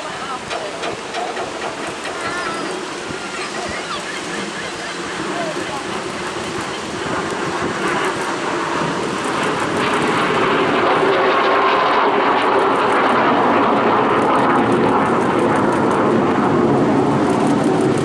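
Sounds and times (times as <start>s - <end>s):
jet engine roar: 0.0s - 18.0s
jet falling whine: 0.0s - 18.0s.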